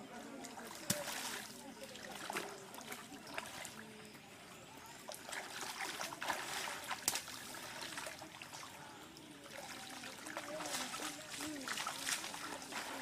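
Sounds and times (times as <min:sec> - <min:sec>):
floodwater splashing and trickling: 0:00.0 - 0:13.0.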